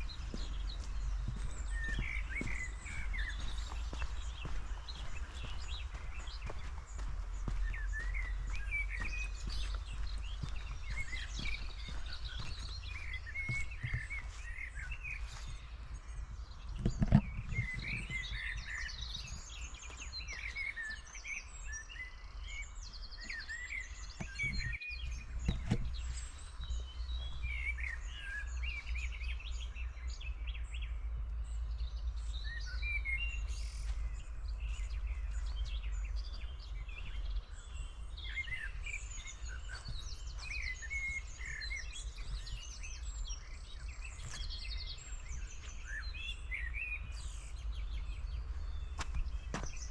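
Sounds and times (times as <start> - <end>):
steady low rumble: 0.0 - 20.5, 25.0 - 49.9
small birds chirping: 0.0 - 49.9.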